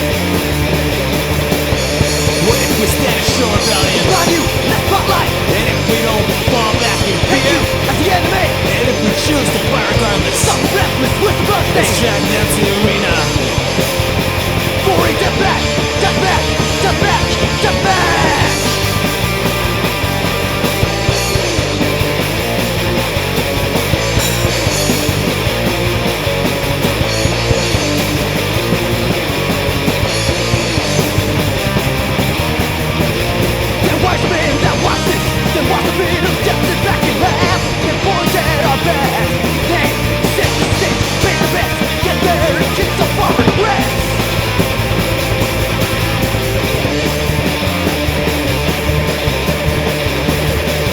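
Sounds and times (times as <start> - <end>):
loud punk rock band: 0.0 - 50.9.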